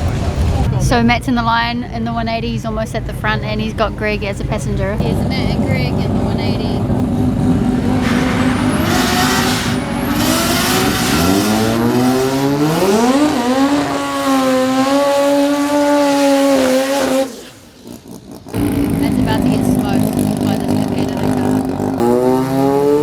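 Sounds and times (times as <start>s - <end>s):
drag car engine revving: 2.2s - 23.0s.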